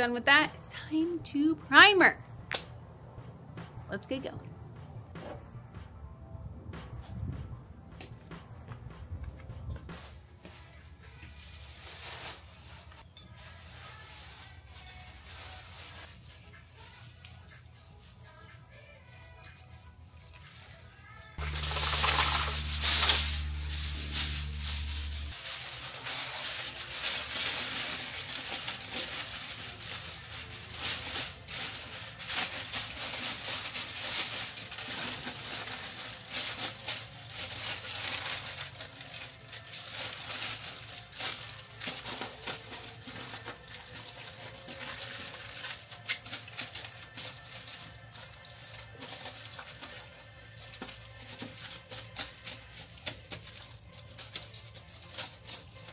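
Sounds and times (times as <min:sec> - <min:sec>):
low steady bass music: 0:00.0 - 0:55.9.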